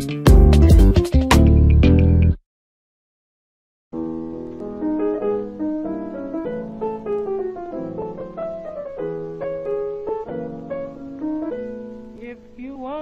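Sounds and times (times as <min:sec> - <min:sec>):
piano music: 0:00.0 - 0:02.4, 0:04.0 - 0:13.0.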